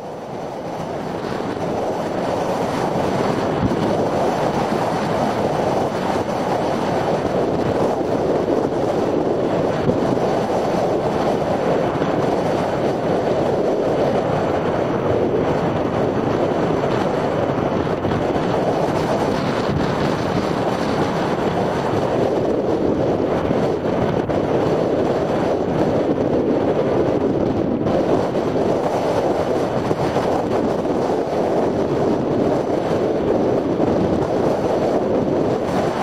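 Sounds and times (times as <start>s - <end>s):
blizzard wind rushing: 0.0s - 36.0s.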